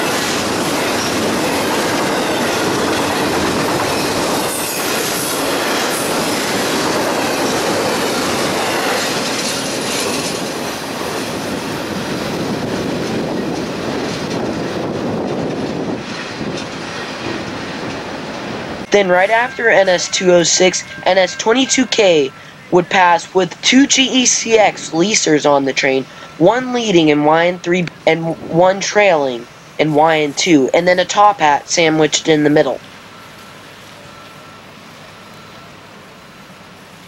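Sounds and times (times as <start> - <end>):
freight train rumbling over rails: 0.0 - 37.0.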